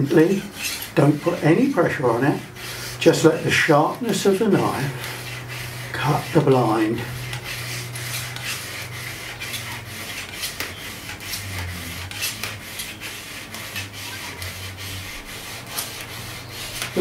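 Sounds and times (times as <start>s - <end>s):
knife sawing through blind: 0.0s - 17.0s.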